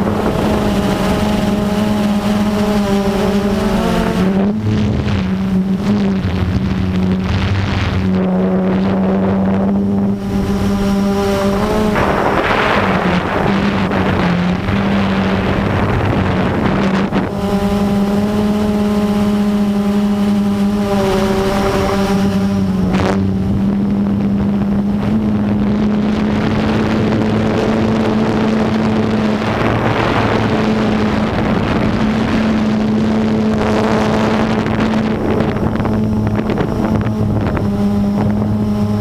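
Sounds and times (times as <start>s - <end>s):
drone motors humming: 0.0s - 39.0s
wind buffeting microphone: 0.0s - 39.0s.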